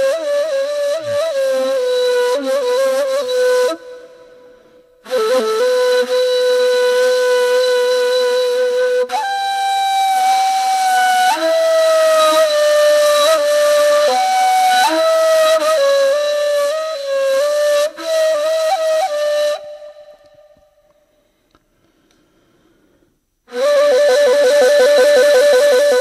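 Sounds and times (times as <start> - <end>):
flute melody: 0.0 - 20.7, 23.5 - 26.0.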